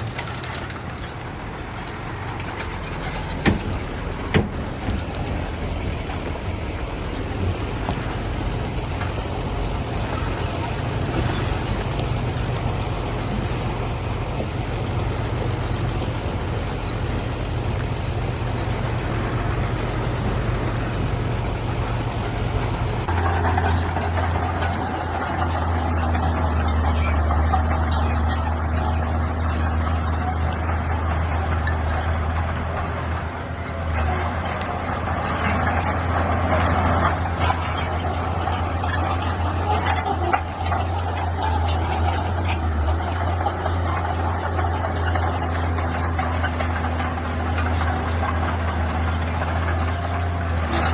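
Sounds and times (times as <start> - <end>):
diesel engine of heavy machinery: 0.0 - 50.9
rapid clicking and rattling: 0.0 - 50.9.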